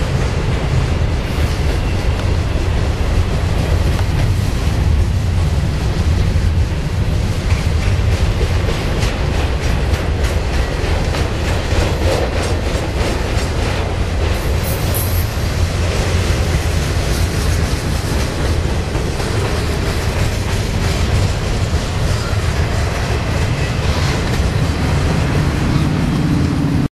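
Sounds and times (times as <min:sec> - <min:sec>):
freight train cars rumbling: 0:00.0 - 0:26.9
wheels clacking over rail joints: 0:00.1 - 0:26.8.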